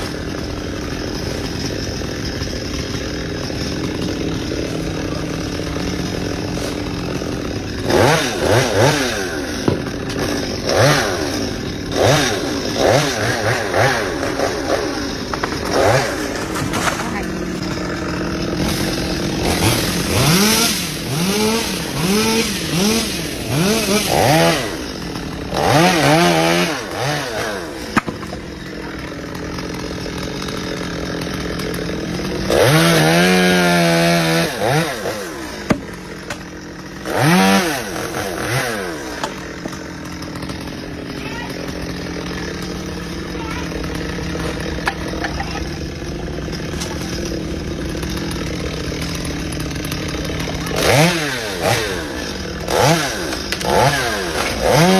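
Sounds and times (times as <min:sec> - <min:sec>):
chainsaw engine revving: 0:00.0 - 0:54.9.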